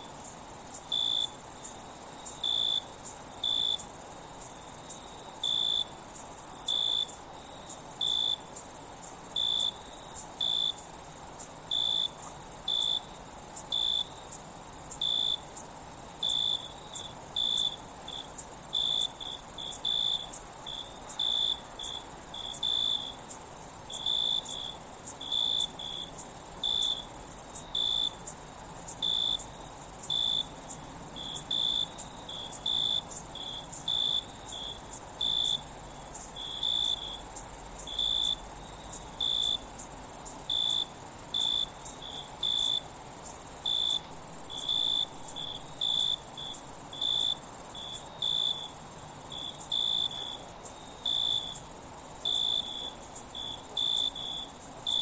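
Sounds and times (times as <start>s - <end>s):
cricket chirping: 0.0s - 55.0s
insects trilling: 0.0s - 55.0s.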